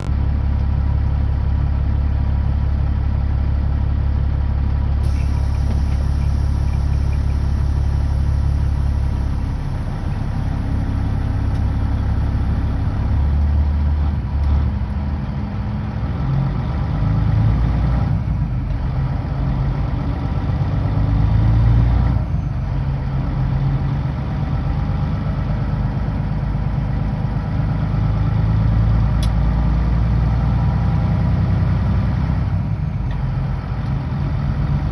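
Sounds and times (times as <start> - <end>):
diesel truck engine droning: 0.0 - 34.9.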